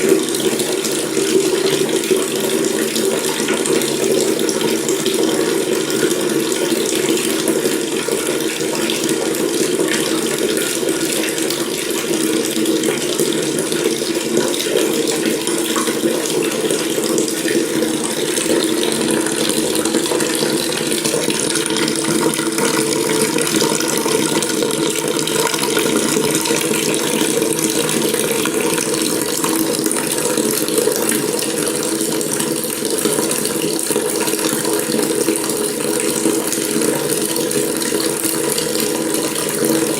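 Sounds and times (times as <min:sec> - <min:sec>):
tap running into sink: 0:00.0 - 0:39.9.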